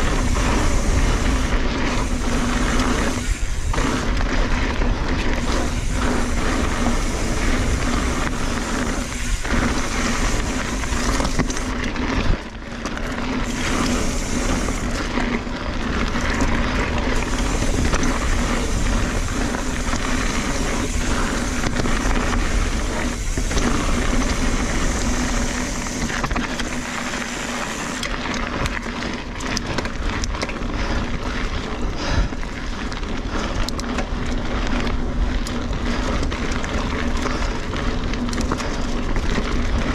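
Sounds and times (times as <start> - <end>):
bike rattling: 0.0 - 39.9
bike tyres rumbling on dirt: 0.0 - 39.9
wind noise on microphone: 0.0 - 39.9.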